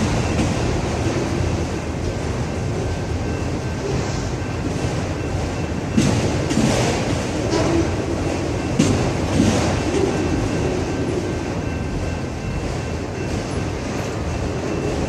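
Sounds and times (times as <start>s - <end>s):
freight cars rumbling on rails: 0.0s - 15.0s
wheels clacking over rail joints: 0.0s - 15.0s.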